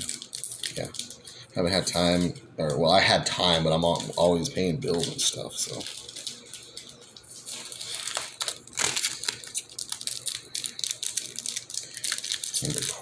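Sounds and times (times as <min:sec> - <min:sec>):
card pack wrapper crinkling: 0:00.0 - 0:01.2, 0:01.8 - 0:13.0.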